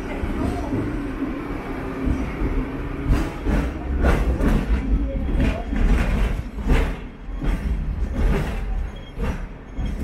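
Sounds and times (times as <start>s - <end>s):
tram body rattling: 0.0s - 10.0s
tram wheels rumbling on rails: 0.0s - 10.0s.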